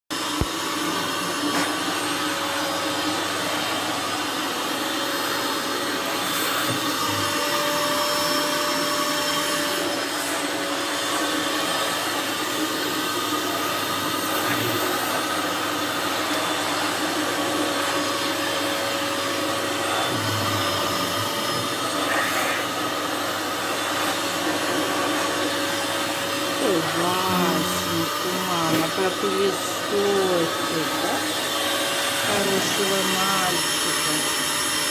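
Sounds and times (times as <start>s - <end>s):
vacuum cleaner whining: 0.1s - 34.9s.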